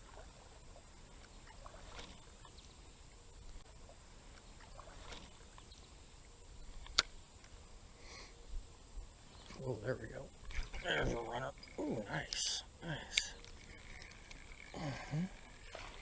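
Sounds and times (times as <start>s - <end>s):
soft swishes of water: 0.0s - 16.0s.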